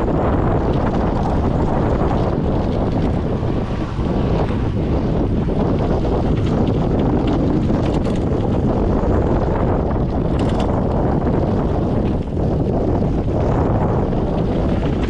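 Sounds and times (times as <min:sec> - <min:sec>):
wind buffeting microphone: 0:00.0 - 0:15.0
rattles and knocks from trail: 0:00.1 - 0:15.0.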